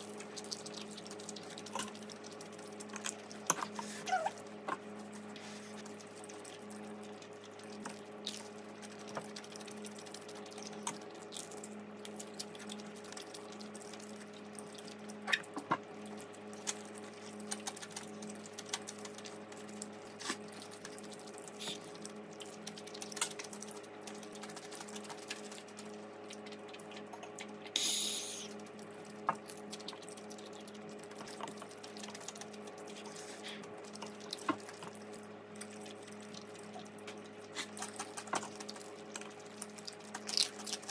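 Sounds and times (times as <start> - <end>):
steady low hum: 0.0 - 40.9
wet chewing: 0.0 - 40.9.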